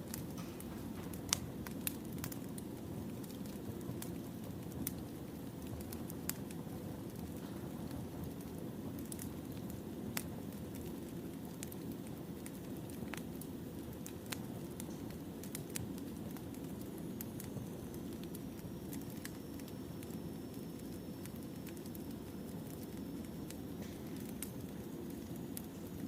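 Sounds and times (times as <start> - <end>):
firewood crackling: 0.0 - 26.0.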